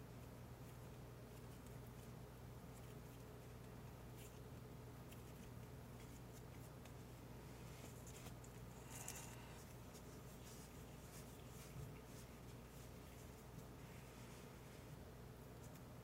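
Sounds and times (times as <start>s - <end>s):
low steady hum: 0.0s - 16.0s
soft rustles and light taps: 0.6s - 16.0s.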